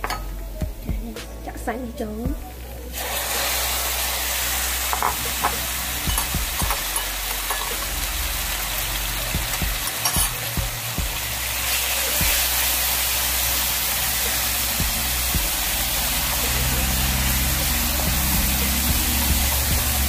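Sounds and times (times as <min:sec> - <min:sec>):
meat sizzling in oil: 0:02.9 - 0:20.0.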